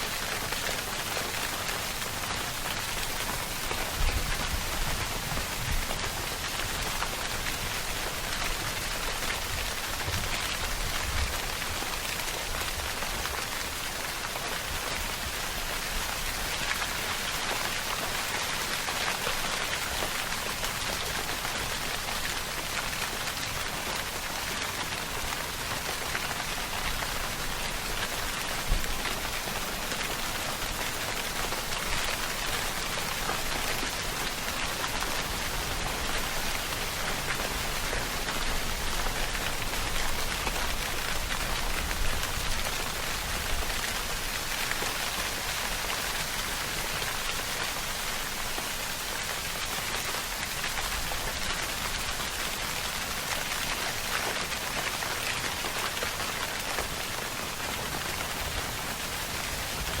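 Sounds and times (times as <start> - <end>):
steady rainfall: 0.0 - 60.0.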